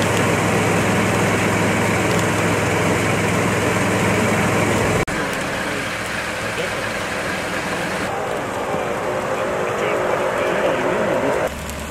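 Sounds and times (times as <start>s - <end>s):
car burning: 0.0s - 11.9s.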